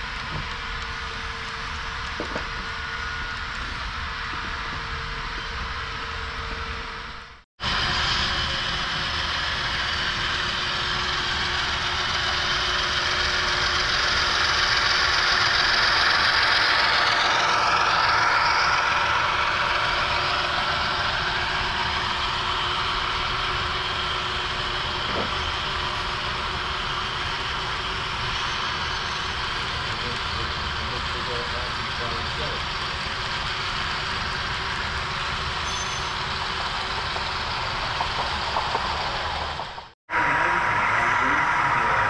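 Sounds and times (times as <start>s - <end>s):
model locomotive engine sound: 0.0s - 42.0s
wheels rolling on track: 0.0s - 42.0s.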